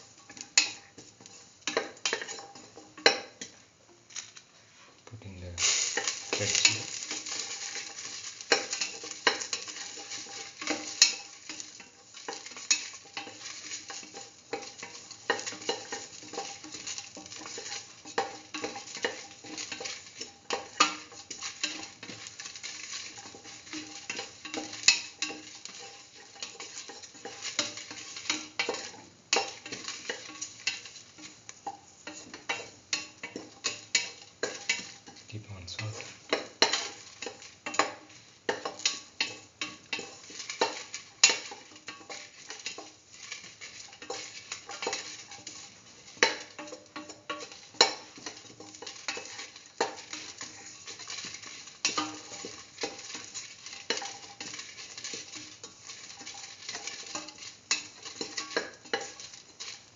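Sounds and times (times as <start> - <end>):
food sizzling in oil: 0.0 - 59.9
spatula scraping steel pan: 5.6 - 35.2, 35.8 - 59.9.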